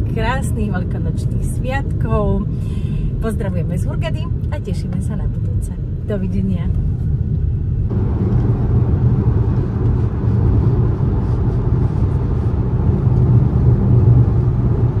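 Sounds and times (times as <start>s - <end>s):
car interior road and engine drone: 0.0s - 15.0s.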